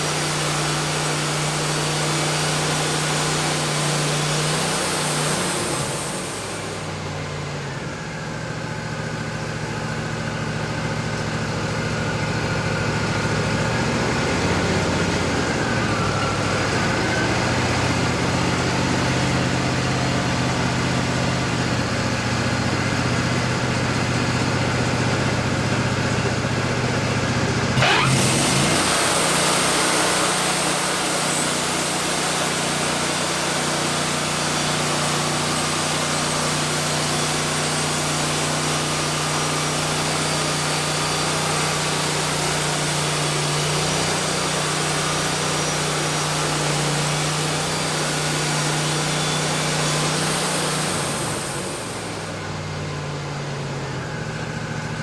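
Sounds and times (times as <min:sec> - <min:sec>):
band saw cutting log: 0:00.0 - 0:07.5, 0:12.1 - 0:52.7
sawmill engine running: 0:00.0 - 0:55.0.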